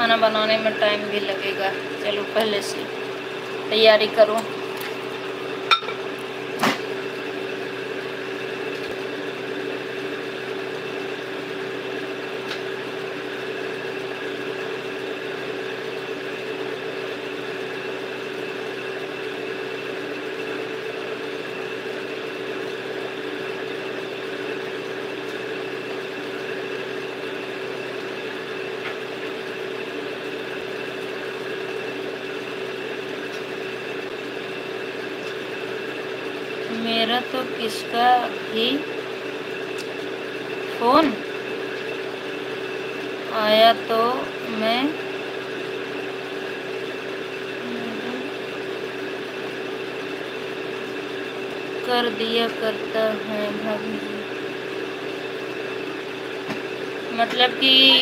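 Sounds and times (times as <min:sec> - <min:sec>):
small motor humming: 0:00.0 - 0:58.0.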